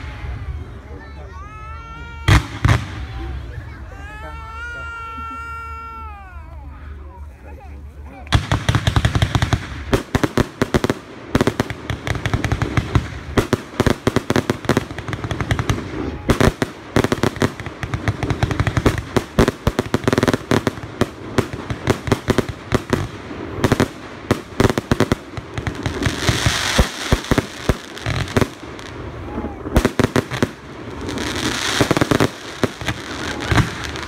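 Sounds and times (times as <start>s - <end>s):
fireworks bangs and crackles: 0.0s - 5.9s, 8.1s - 34.0s.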